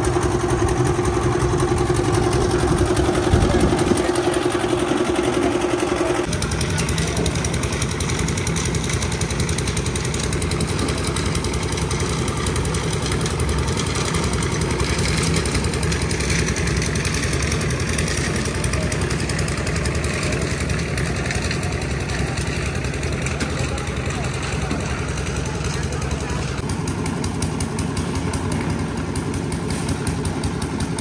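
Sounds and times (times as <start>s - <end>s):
engine idling with knocking: 0.0s - 31.0s.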